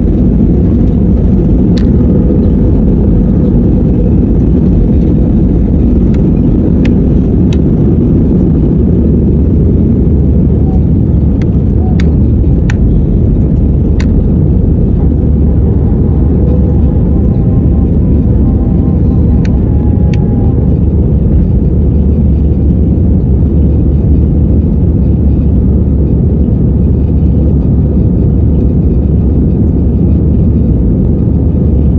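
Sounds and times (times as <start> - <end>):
jet engines roaring: 0.0 - 31.9.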